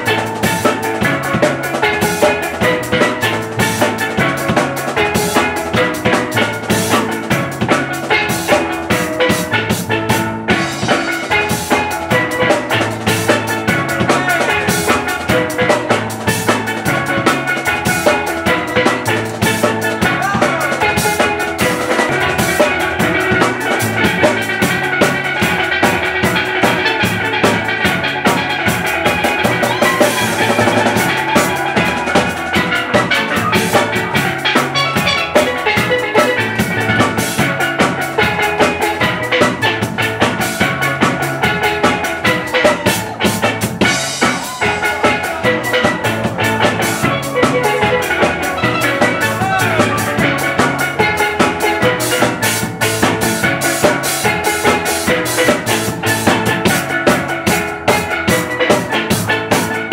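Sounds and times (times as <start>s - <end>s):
drum kit beat: 0.0s - 59.9s
steel pans playing tune: 0.0s - 59.9s.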